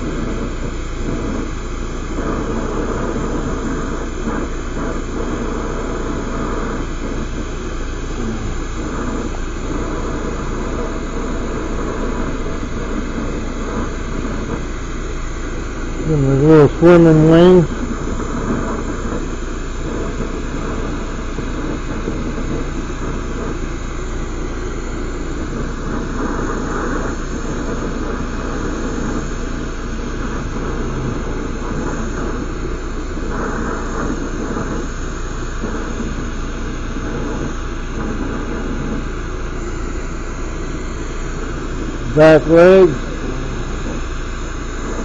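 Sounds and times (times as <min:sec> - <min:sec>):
torch burning with hiss: 0:00.0 - 0:45.0.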